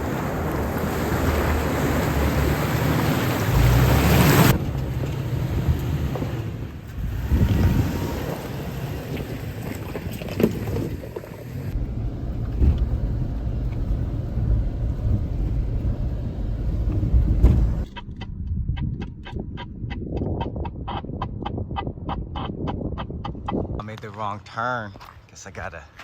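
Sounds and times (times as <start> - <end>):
vehicle engine rumble: 0.0 - 24.4.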